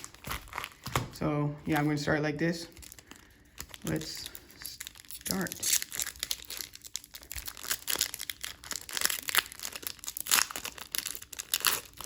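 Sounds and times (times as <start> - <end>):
foil pack tearing and crinkling: 0.0 - 1.2, 2.7 - 12.0.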